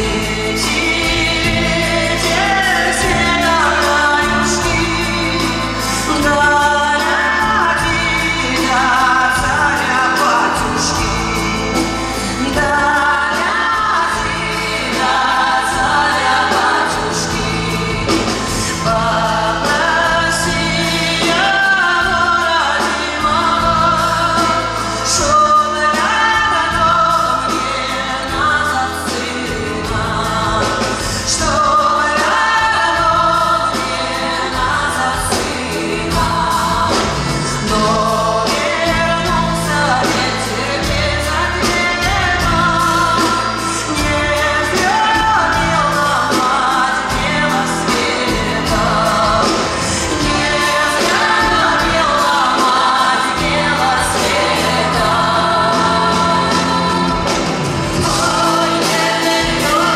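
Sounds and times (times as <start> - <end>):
accordion: 0.0 - 59.9
acoustic guitar: 0.0 - 59.9
percussion: 0.0 - 59.9
woman singing into a microphone: 0.0 - 59.9.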